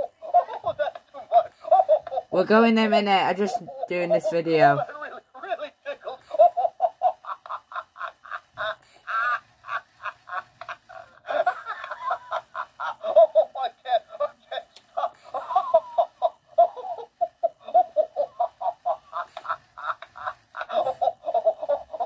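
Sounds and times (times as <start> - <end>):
toy laughing through speaker: 0.0 - 2.4, 3.4 - 22.0.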